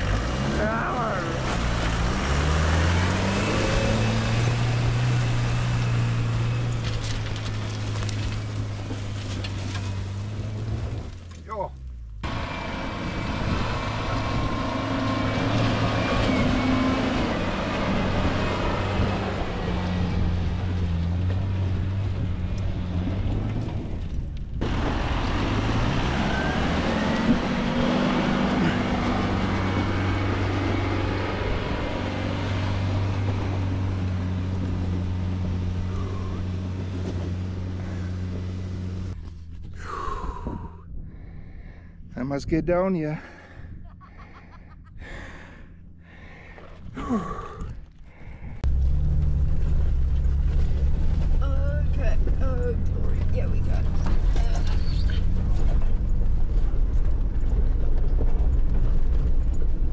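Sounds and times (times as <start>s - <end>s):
engine labouring uphill: 0.0s - 59.9s.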